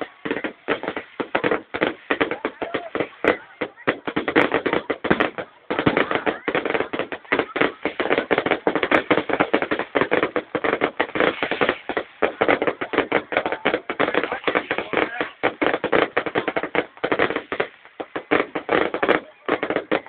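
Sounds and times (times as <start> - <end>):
fireworks crackling bangs: 0.0 - 20.0.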